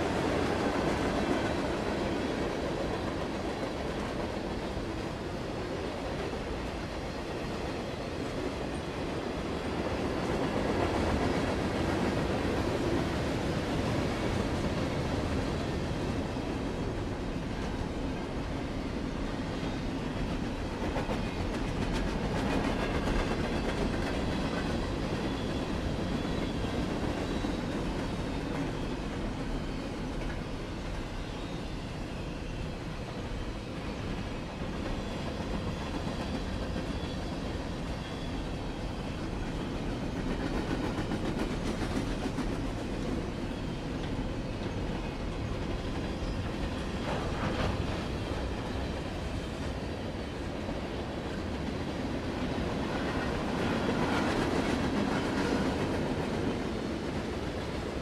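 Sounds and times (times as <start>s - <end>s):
freight train wheels rumbling: 0.0s - 58.0s
wheels clickety-clack on rail joints: 0.0s - 58.0s.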